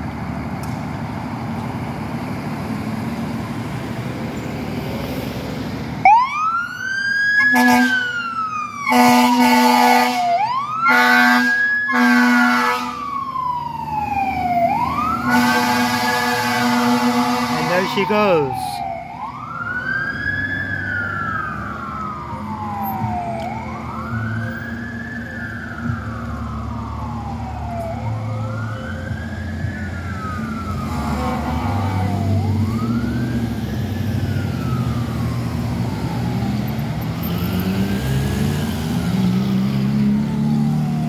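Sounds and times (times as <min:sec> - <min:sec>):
traffic engines rumbling: 0:00.0 - 0:41.0
fire engine siren wailing: 0:01.4 - 0:41.0.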